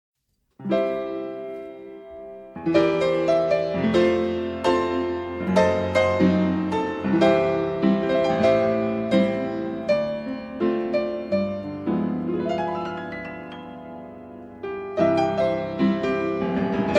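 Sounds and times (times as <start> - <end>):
piano music: 0.6 - 16.9.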